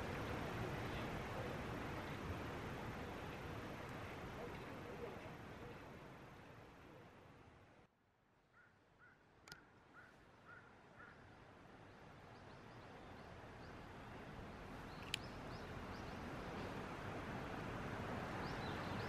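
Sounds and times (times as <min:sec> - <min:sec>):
outdoor ambience: 0:00.0 - 0:19.0.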